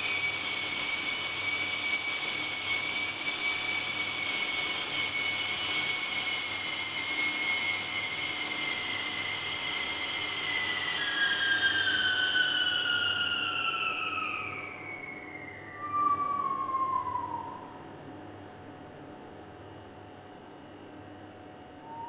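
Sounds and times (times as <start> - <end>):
high air whistles: 0.0 - 18.0, 21.8 - 22.0
low air whistle: 0.0 - 18.4, 21.8 - 22.0.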